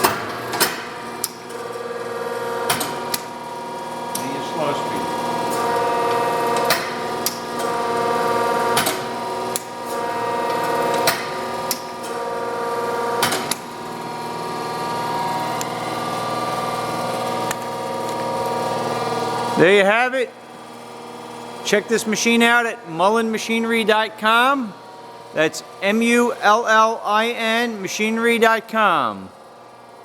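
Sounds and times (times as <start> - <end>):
motor and hydraulic hum: 0.0 - 30.0.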